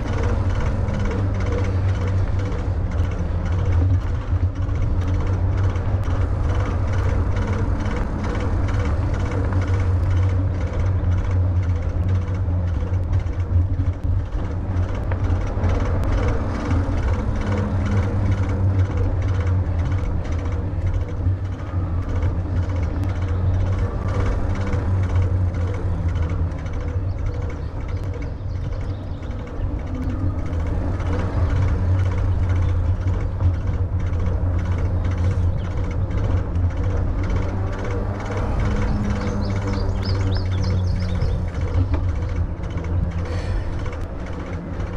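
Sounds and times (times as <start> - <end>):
tyres rolling on asphalt: 0.0 - 44.9
wind buffeting microphone: 0.0 - 44.9.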